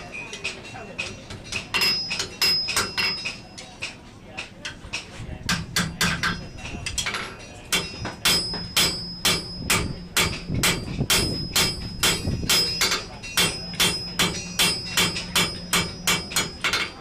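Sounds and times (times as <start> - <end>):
hammer striking steel on anvil: 0.3 - 17.0.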